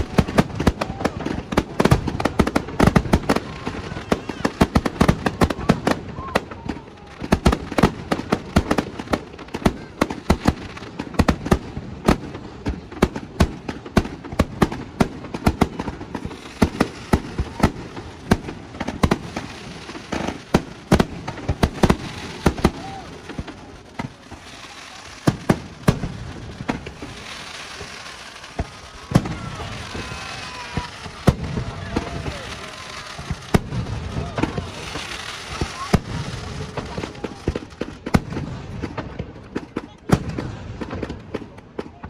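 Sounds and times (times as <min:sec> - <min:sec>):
fireworks crackling hiss: 0:00.0 - 0:41.8
fireworks bangs: 0:00.0 - 0:42.0.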